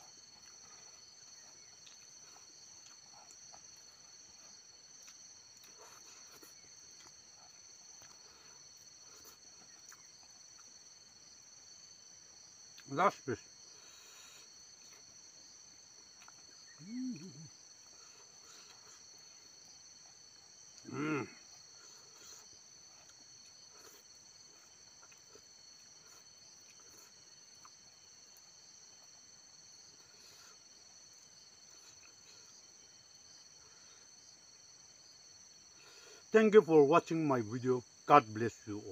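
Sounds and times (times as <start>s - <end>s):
crickets trilling: 0.0s - 38.9s
insects chirping: 0.0s - 38.9s.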